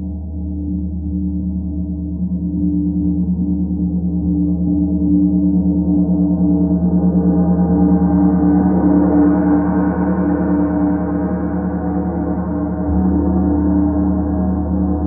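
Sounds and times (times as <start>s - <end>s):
gong humming with pulsing beat: 0.0s - 15.0s.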